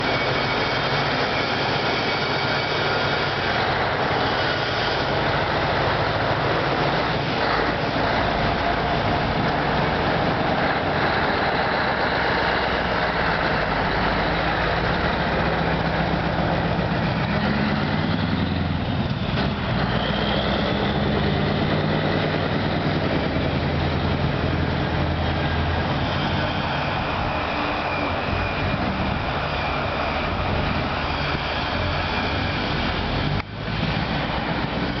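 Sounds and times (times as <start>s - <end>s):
diesel truck engine running: 0.0s - 35.0s.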